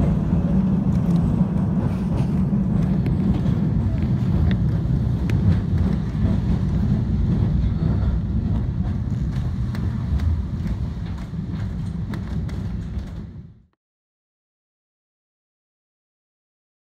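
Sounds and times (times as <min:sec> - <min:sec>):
tram wheels rumbling: 0:00.0 - 0:13.7.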